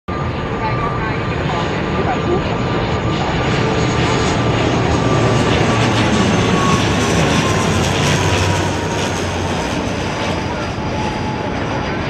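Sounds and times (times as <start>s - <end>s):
turboprop airliner passing overhead: 0.1s - 12.0s.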